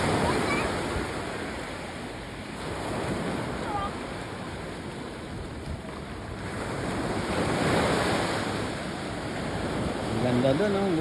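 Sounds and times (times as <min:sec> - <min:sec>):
small waves breaking on beach: 0:00.0 - 0:11.0
wind buffeting microphone: 0:00.0 - 0:11.0.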